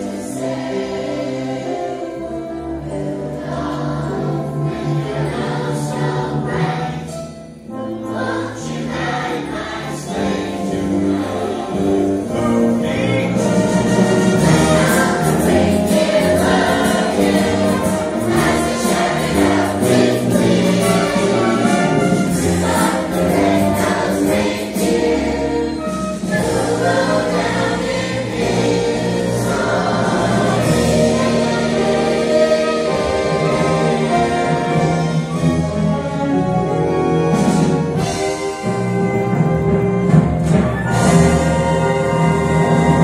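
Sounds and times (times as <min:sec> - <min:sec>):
large choir singing: 0:00.0 - 0:43.0
orchestra playing: 0:00.0 - 0:43.0.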